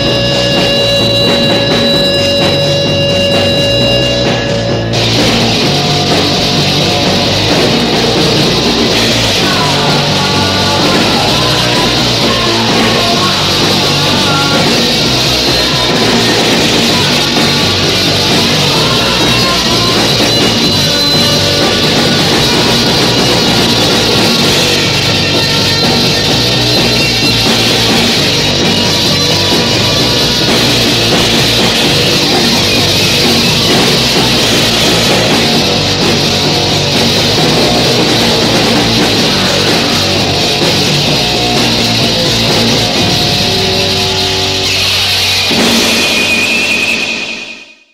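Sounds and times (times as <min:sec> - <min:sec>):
punk rock guitar and drums: 0:00.0 - 0:47.9.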